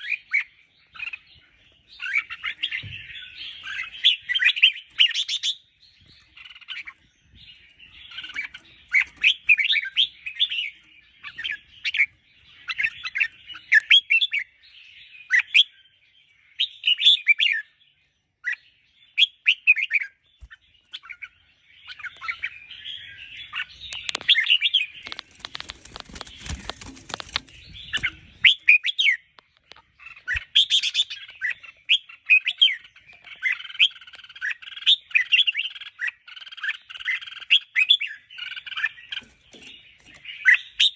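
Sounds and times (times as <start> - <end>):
birds singing chirpy phrases: 0.0 - 40.9.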